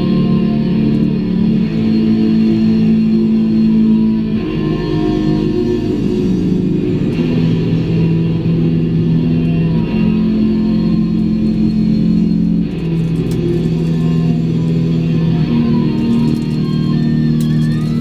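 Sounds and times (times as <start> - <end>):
rock guitar chords: 0.0 - 18.0.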